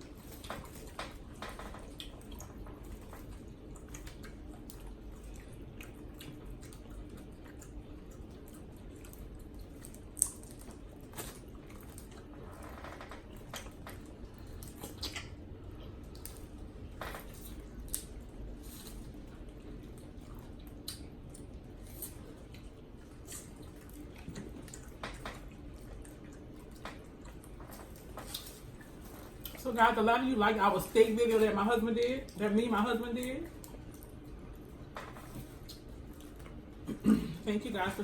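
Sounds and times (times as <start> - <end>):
wet smacking and chewing: 0.0 - 29.7, 33.4 - 37.0
steady low hum: 0.0 - 38.0
sticky squishes of food: 0.0 - 38.0.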